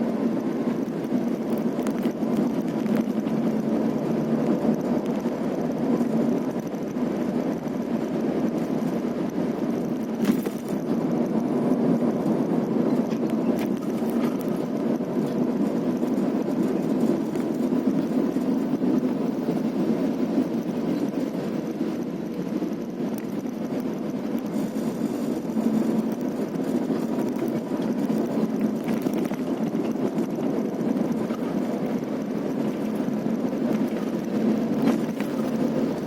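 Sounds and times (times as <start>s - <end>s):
vehicle running along road: 0.0s - 36.0s.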